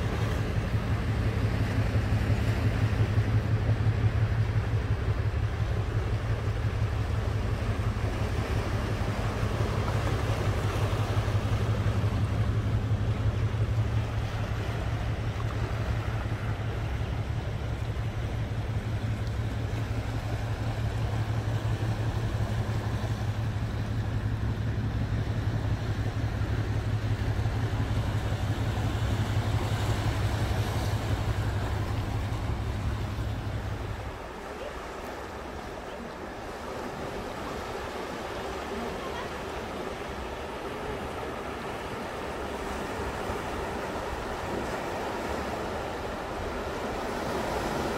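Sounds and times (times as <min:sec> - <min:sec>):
steady low hum: 0:00.0 - 0:47.9
waves washing on rocky shore: 0:00.0 - 0:47.9.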